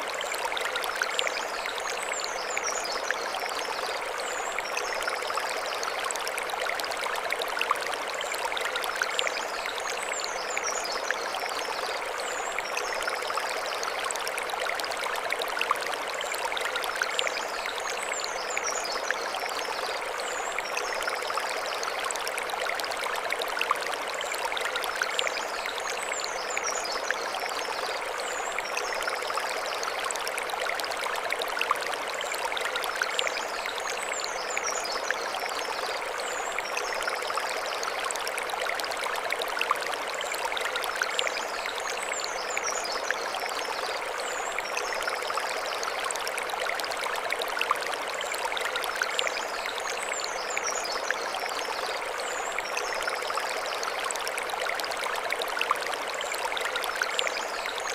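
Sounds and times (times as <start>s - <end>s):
stream running over stones: 0.0s - 57.9s.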